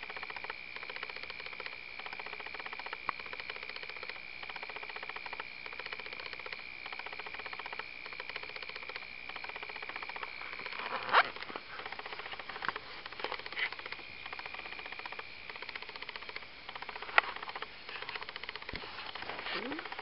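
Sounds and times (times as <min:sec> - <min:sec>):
high-pitched pulsing whine: 0:00.0 - 0:20.0.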